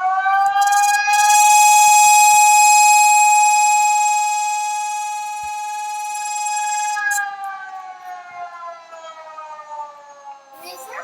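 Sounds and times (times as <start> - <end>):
emergency alert siren tone: 0.0 - 10.5.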